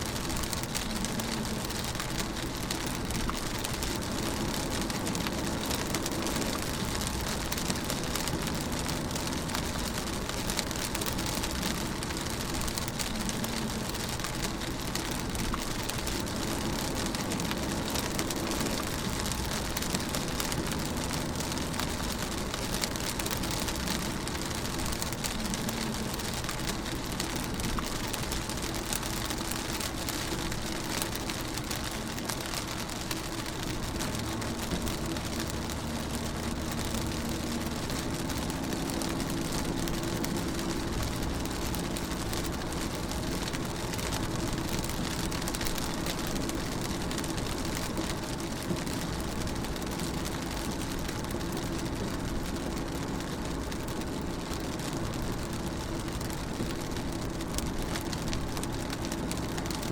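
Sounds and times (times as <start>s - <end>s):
engine and road drone: 0.0s - 59.9s
rain pattering on a car: 0.0s - 59.9s.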